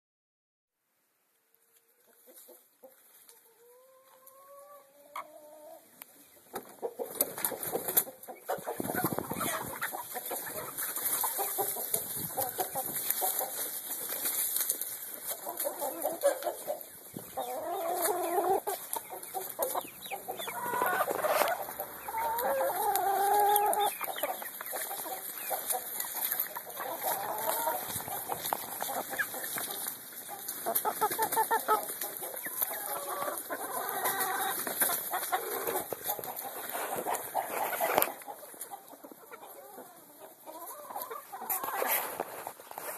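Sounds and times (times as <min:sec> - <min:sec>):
hens clucking: 0:01.7 - 0:42.9.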